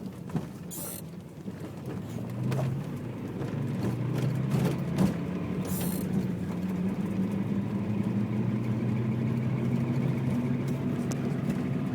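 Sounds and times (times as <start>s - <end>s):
low drone inside driving car: 0.1s - 11.9s.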